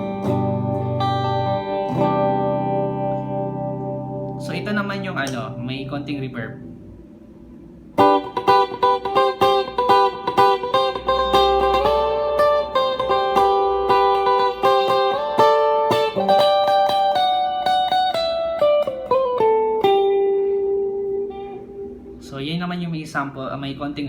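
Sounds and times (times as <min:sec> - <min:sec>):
clean electric guitar: 0:00.0 - 0:24.0.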